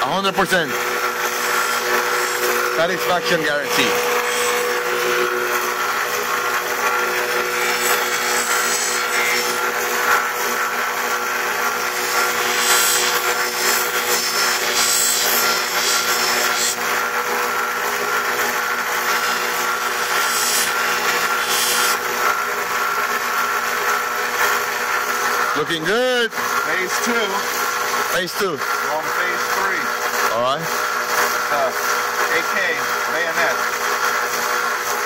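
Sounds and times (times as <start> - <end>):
blade grinding: 0.0 - 35.0
motor hum: 0.0 - 35.0.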